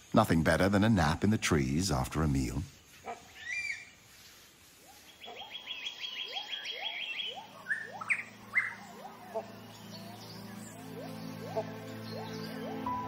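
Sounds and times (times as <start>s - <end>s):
forest birds chirping and trilling: 0.0s - 13.0s.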